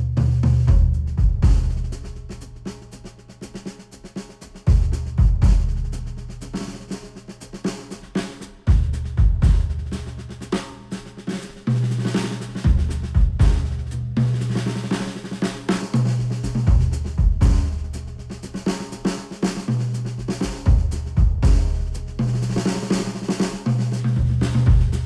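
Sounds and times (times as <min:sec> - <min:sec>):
drum kit: 0:00.0 - 0:25.0.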